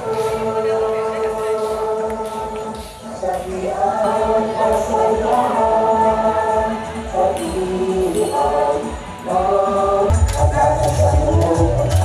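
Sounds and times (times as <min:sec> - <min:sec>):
background music: 0:00.0 - 0:12.0
voices singing long notes: 0:00.0 - 0:12.0.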